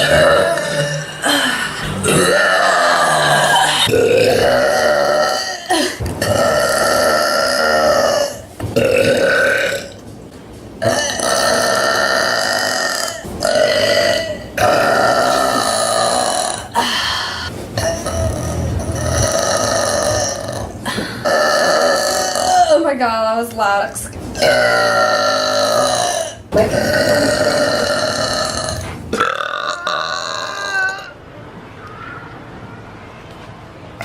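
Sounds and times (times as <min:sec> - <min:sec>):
woman burping: 0:00.0 - 0:10.0, 0:10.8 - 0:22.9, 0:24.4 - 0:31.2.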